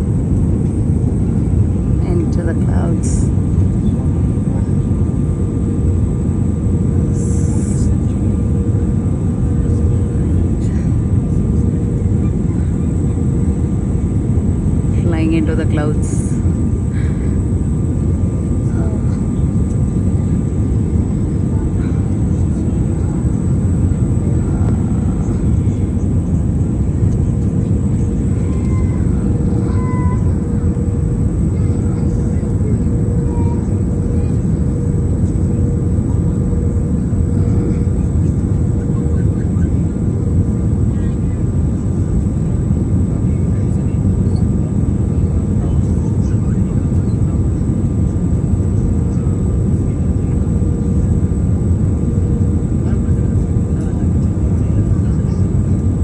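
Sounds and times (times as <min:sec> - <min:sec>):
aircraft engines and rushing air: 0:00.0 - 0:56.0
constant cabin hum: 0:00.0 - 0:56.0
faint steady whines: 0:00.0 - 0:56.0.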